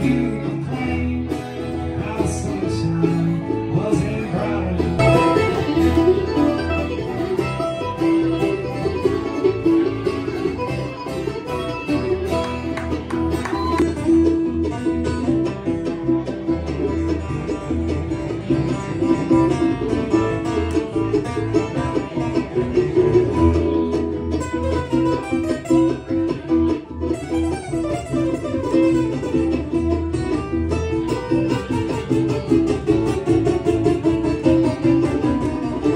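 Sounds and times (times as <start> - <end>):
banjo: 0.0 - 35.9
bass line: 0.0 - 35.9
guitar: 0.0 - 35.9.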